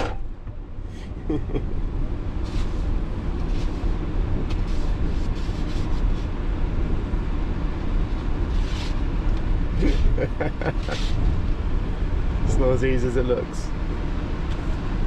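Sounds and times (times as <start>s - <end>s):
blizzard wind buffeting a van: 0.0s - 15.0s.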